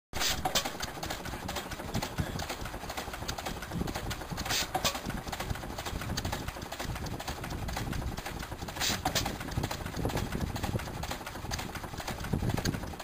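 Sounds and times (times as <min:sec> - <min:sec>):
stationary engine clattering: 0:00.2 - 0:13.0.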